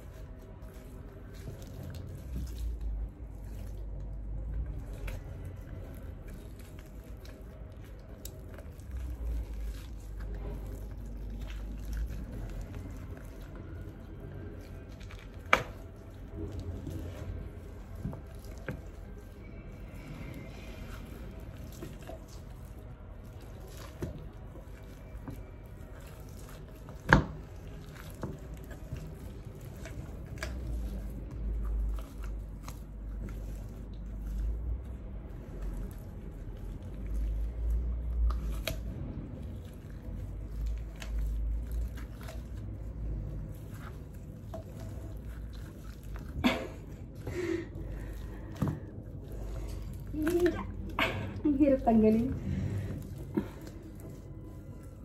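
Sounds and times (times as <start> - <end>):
wet squishing of chicken skin peeling: 0.0 - 55.0.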